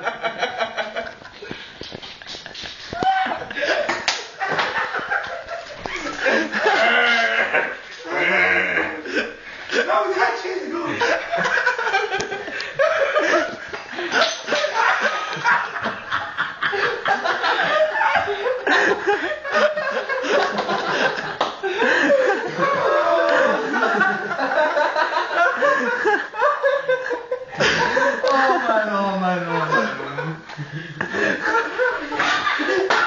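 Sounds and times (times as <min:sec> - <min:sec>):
people laughing: 0:00.0 - 0:33.0.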